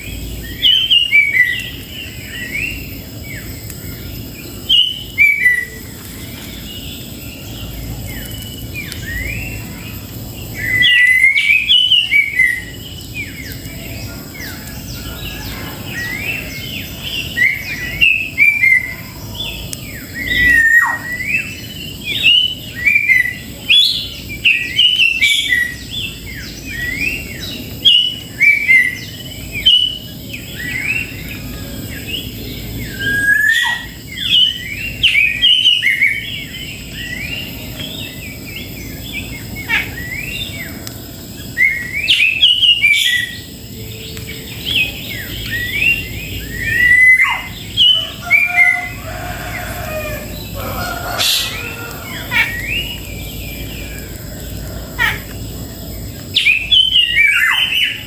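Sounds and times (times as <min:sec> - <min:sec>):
bird whistled chirps: 0:04.6 - 0:09.8, 0:10.4 - 0:31.4, 0:32.1 - 0:40.7, 0:41.5 - 0:54.1, 0:56.3 - 0:58.0.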